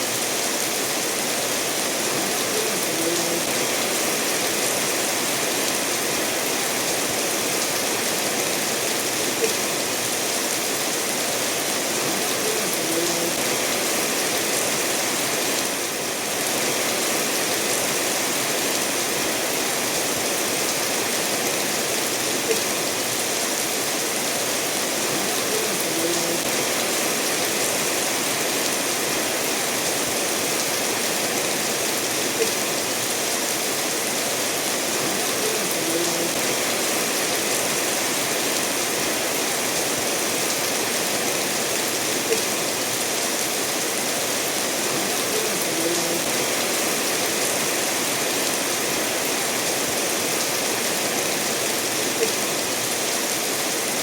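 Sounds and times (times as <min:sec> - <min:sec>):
steady rainfall: 0:00.0 - 0:54.0
stream flowing over stones: 0:00.0 - 0:54.0.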